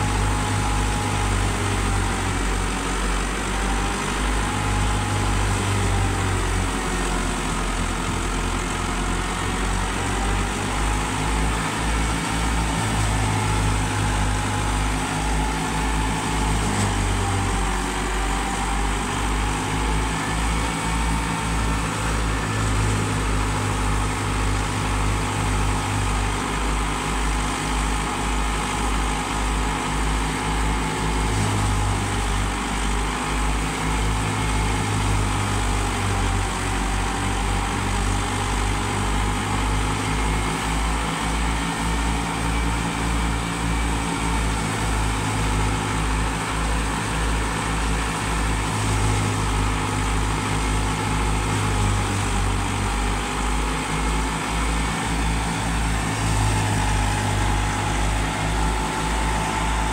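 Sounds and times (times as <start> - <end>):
thresher mechanical hum: 0.0 - 59.9
tractor diesel engine running: 0.0 - 59.9.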